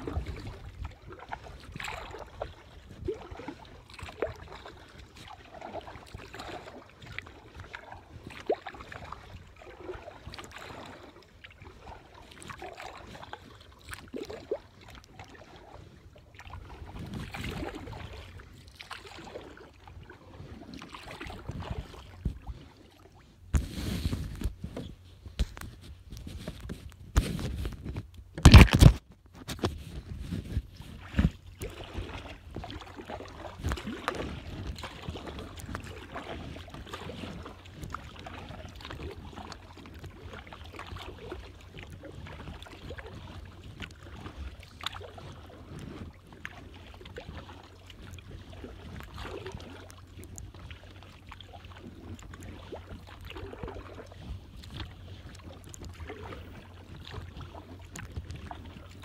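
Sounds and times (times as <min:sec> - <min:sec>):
water splashing and dripping: 0:00.0 - 0:23.1, 0:30.9 - 0:59.0.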